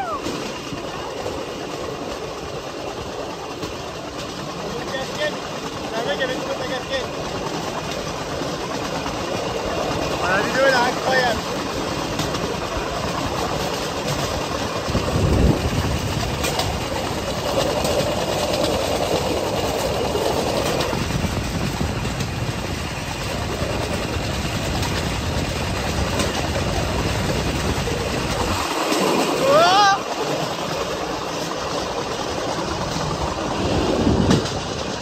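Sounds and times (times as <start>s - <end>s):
steel wheels rolling on rails: 0.0s - 35.0s.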